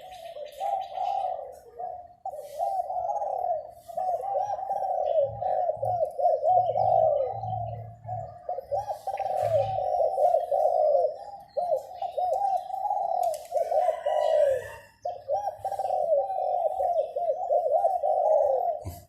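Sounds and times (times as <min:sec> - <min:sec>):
doves cooing: 0:00.0 - 0:19.0
small birds chirping: 0:00.0 - 0:19.0.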